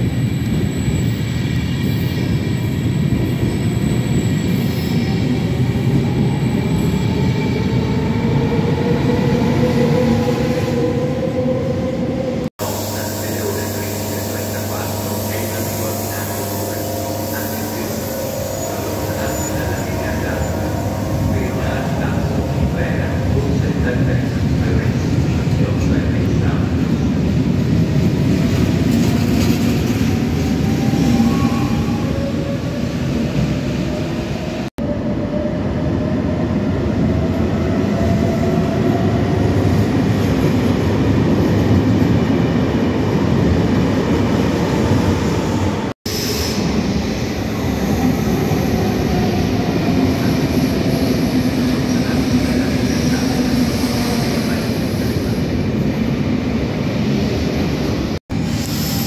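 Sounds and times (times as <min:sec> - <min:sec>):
echoing train wheels rumbling on rails: 0:00.0 - 0:59.0.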